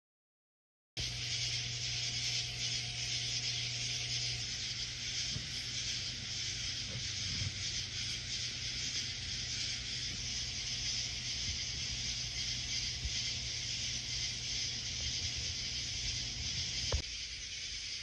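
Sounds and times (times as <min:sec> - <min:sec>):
steady hiss: 0:01.0 - 0:18.0.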